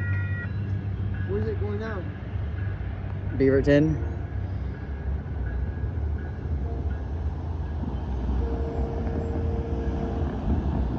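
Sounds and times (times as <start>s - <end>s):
diesel railcar rumbling: 0.0s - 10.9s
steady crossing tone: 0.0s - 10.9s.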